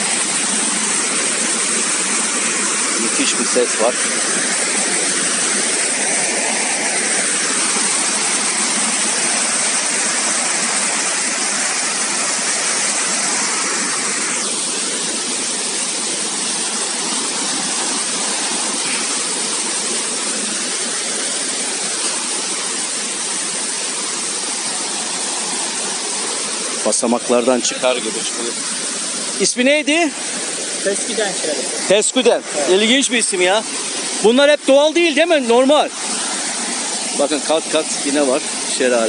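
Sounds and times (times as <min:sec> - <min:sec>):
waterfall rushing over rocks: 0:00.0 - 0:39.0.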